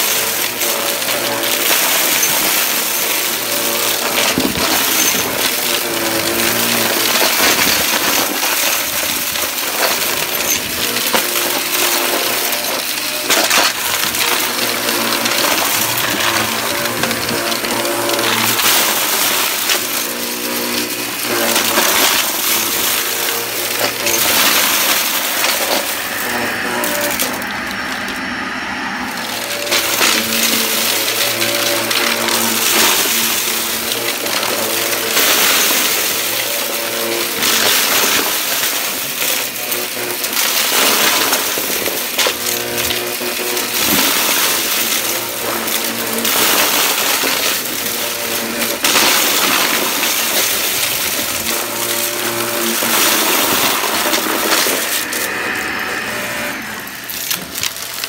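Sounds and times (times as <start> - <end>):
debris clattering up nozzle: 0.0 - 58.0
vacuum cleaner motor hum: 10.0 - 37.9, 38.5 - 58.0.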